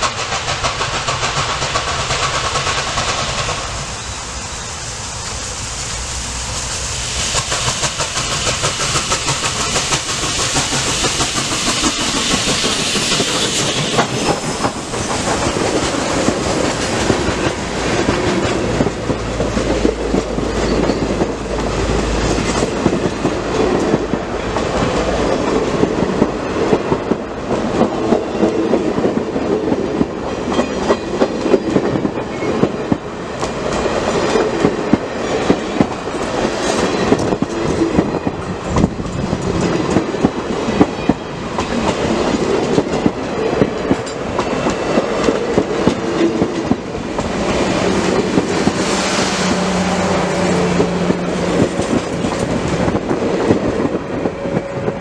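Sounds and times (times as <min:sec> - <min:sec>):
train wheels clicking over rails: 0:00.0 - 0:55.0.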